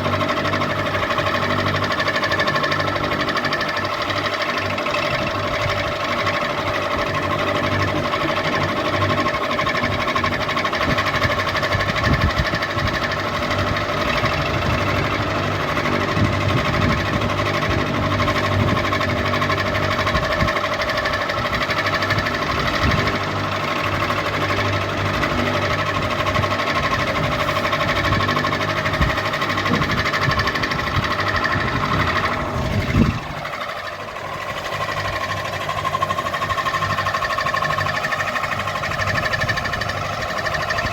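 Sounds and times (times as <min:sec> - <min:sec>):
ceiling fan motor hum: 0:00.0 - 0:40.9.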